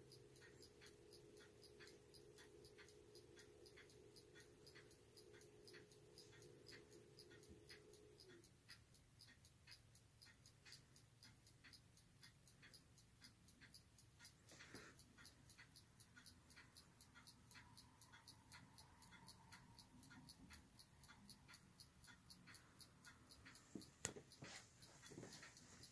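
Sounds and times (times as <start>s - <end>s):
faint even ticking: 0.0s - 25.9s.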